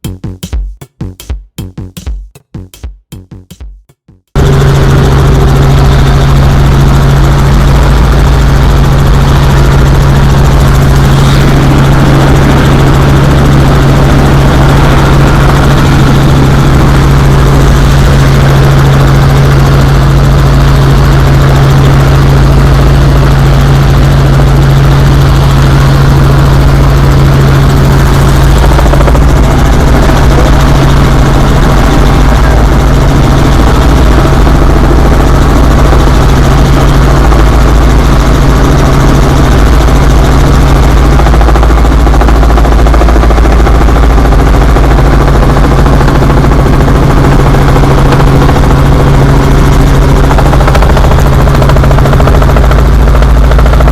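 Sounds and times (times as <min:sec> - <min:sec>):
helicopter engine and rotor drone: 0:04.4 - 0:53.9.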